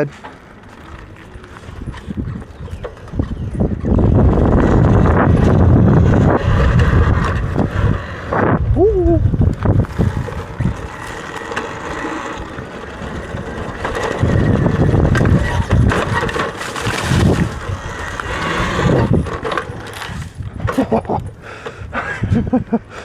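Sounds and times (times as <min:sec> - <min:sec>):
electric dirt bike rumble: 0:00.0 - 0:23.0
wind buffeting microphone: 0:00.7 - 0:23.0.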